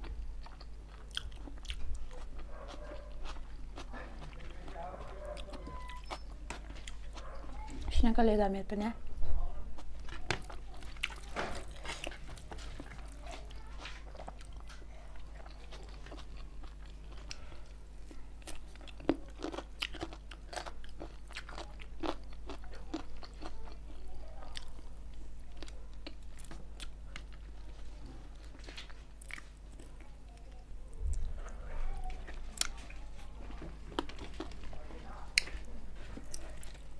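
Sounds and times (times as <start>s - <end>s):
chewing with crunches: 0.0s - 7.9s, 9.8s - 36.9s
steady low hum: 0.0s - 36.9s.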